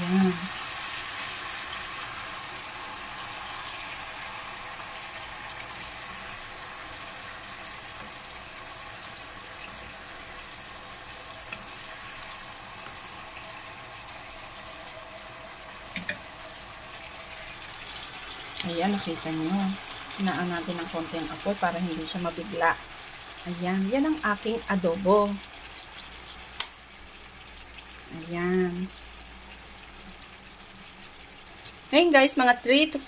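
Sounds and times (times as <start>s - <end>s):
meat sizzling in a frying pan: 0.0s - 33.0s.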